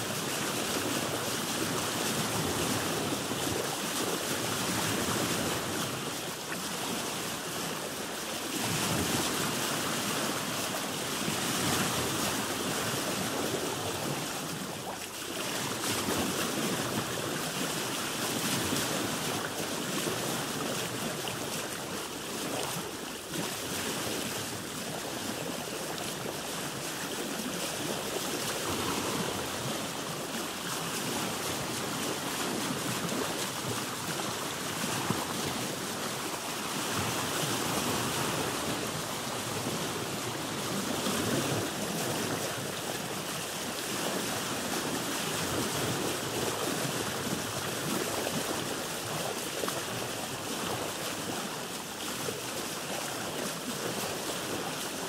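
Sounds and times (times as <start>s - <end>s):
waves washing around boat: 0.0s - 55.0s.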